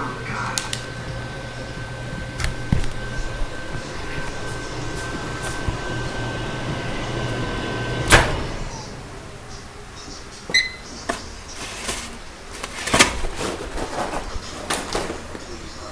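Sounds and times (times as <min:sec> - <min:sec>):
microwave oven humming: 0:00.0 - 0:15.9.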